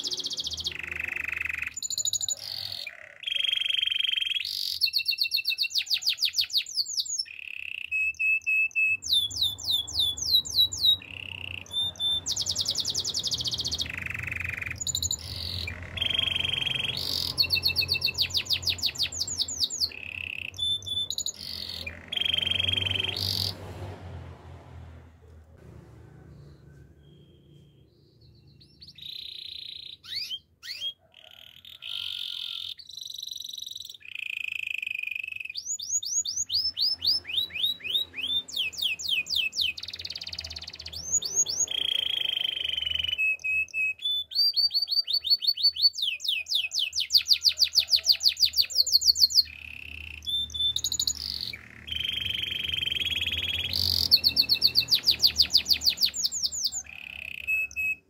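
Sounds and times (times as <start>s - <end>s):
canary singing trills: 0.0s - 23.8s, 26.4s - 58.0s.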